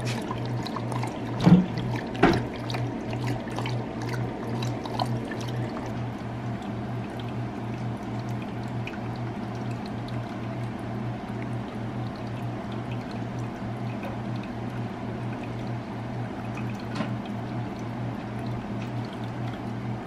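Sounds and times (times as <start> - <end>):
animals lapping water: 0.0 - 20.0
water drips: 0.0 - 20.0
water trickling in pet fountain: 0.0 - 20.0.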